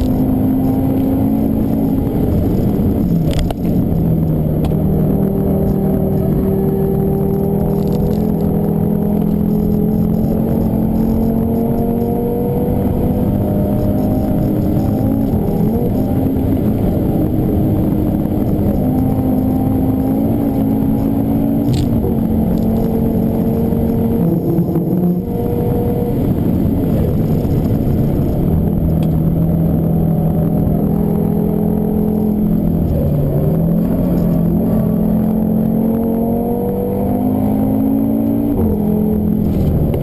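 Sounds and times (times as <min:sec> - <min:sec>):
car engine at high speed: 0:00.0 - 0:40.0
tyre and wind noise: 0:00.0 - 0:40.0.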